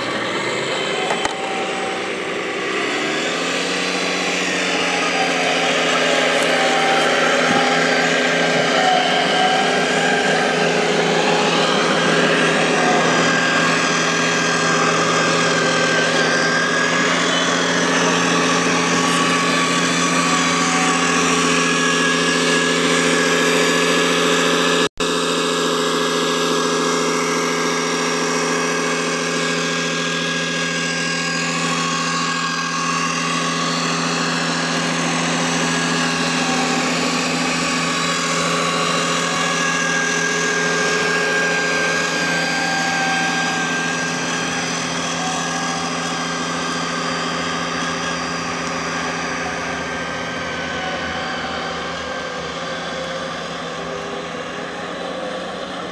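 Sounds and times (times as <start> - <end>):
model truck engine-like drone: 0.0 - 55.9.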